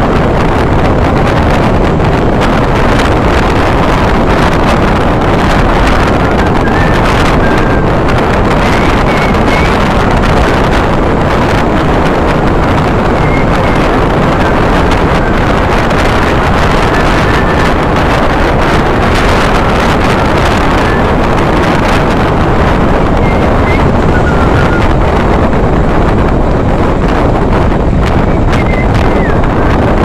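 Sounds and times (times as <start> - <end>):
vehicle motor running: 0.0 - 30.0
wind rushing over microphone: 0.0 - 30.0.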